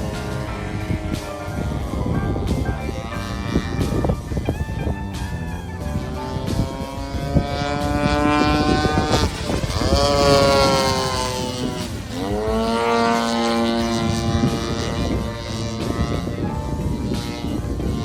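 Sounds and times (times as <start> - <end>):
model airplane motor and propeller: 0.0 - 18.0.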